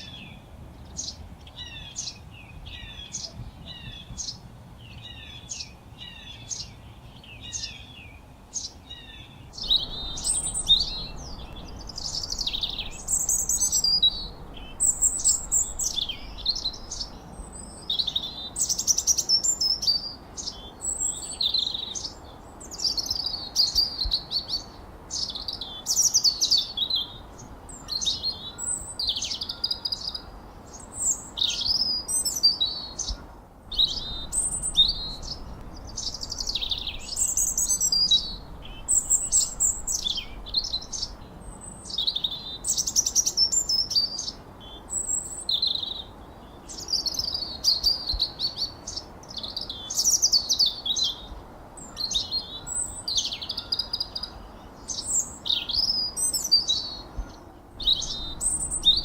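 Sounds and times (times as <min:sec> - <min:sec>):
faint background hiss: 0:00.0 - 0:59.0
songbirds chirping and whistling: 0:00.0 - 0:59.0.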